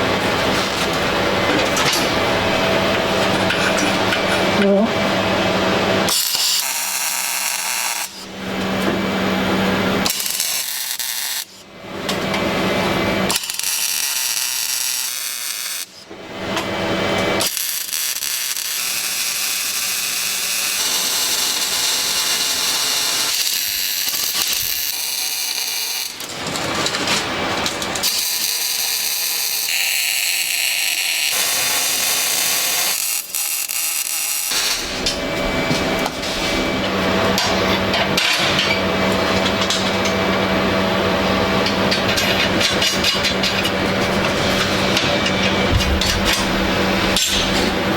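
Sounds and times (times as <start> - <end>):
power tools grinding metal: 5.4 - 47.9.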